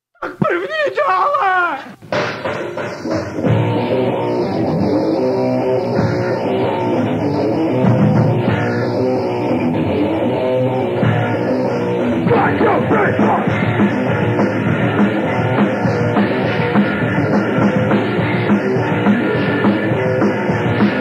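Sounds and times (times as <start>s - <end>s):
electric guitar riff: 1.9s - 21.0s
loud rock music: 2.0s - 21.0s.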